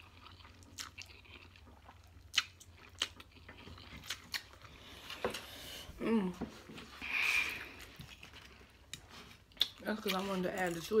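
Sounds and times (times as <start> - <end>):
person chewing noodles: 0.0 - 6.0, 7.0 - 9.8.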